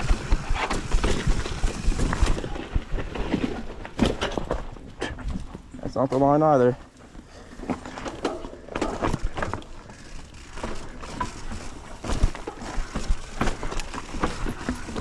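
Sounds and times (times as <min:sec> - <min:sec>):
mountain bike rattling on rocks: 0:00.0 - 0:15.0.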